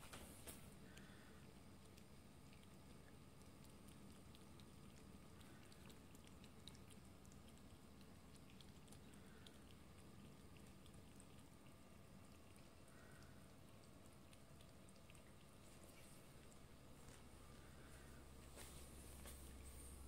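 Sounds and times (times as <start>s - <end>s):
kittens chewing and smacking: 0.0s - 20.0s
low steady hum: 0.0s - 20.0s.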